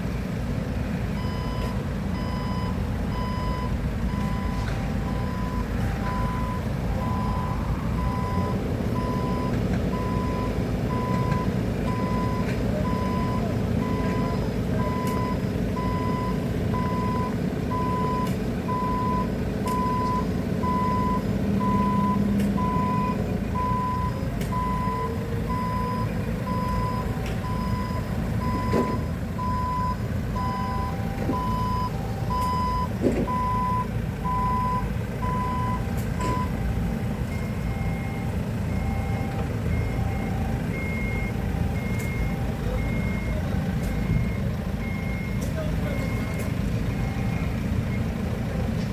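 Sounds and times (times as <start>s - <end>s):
backup alarm beeping: 1.2s - 48.1s.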